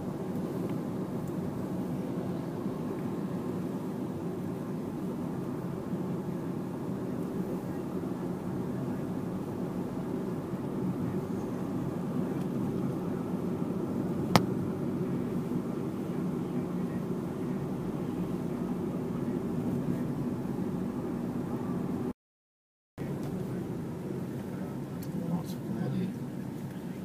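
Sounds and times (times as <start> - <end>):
car engine and road noise: 0.0 - 22.1, 23.0 - 27.0.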